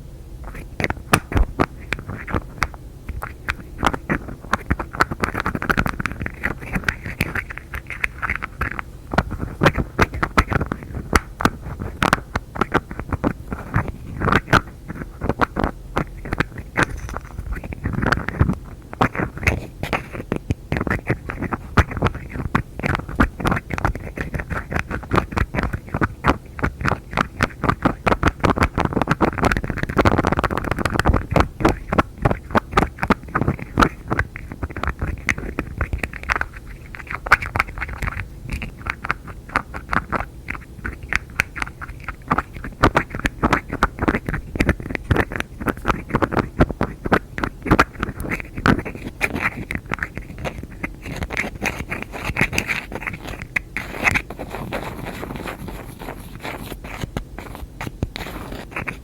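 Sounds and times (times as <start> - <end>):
fingertips and nails tapping objects: 0.4 - 59.0.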